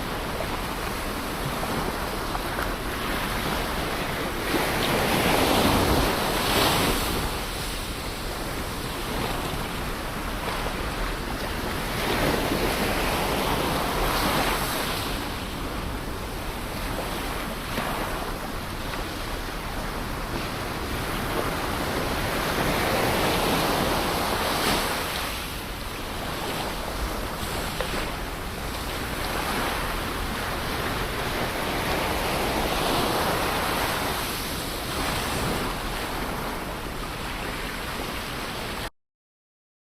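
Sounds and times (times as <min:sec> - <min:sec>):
ocean surf washing onto shore: 0:00.0 - 0:38.9.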